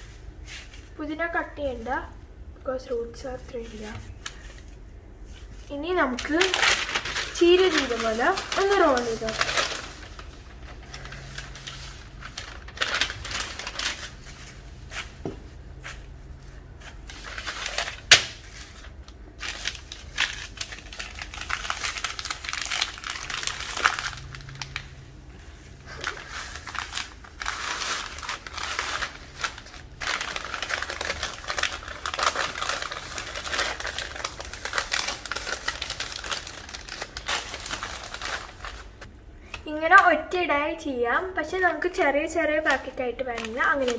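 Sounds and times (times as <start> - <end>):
paper crinkling and rustling: 3.4 - 39.1, 42.4 - 43.9.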